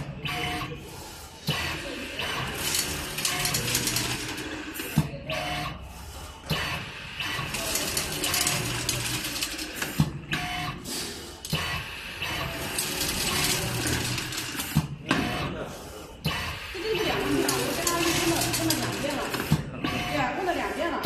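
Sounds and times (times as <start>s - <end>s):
machine whirring: 0.0s - 21.0s.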